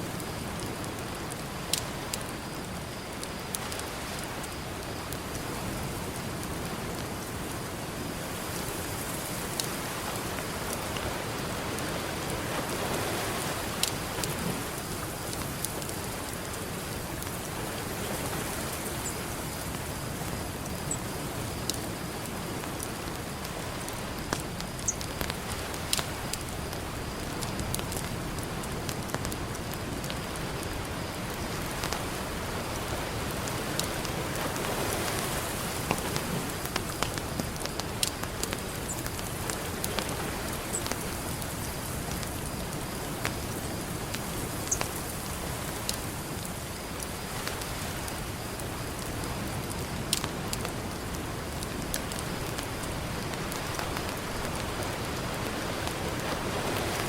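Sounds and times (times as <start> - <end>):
campfire crackling and popping: 0.0 - 57.0
ocean surf: 0.0 - 57.0.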